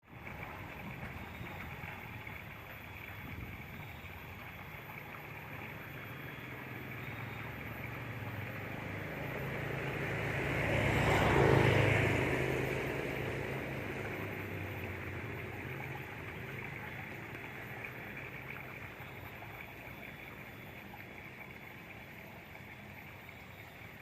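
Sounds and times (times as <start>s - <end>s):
cicadas buzzing: 0.0s - 24.0s.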